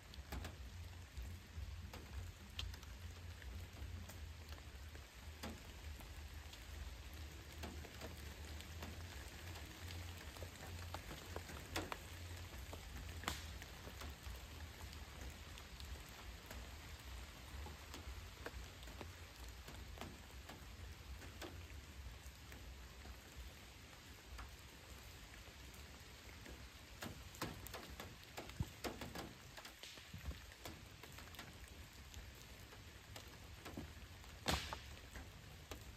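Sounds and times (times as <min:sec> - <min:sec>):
raindrops ticking close by: 0:00.0 - 0:35.9
steady rain hiss: 0:00.0 - 0:35.9.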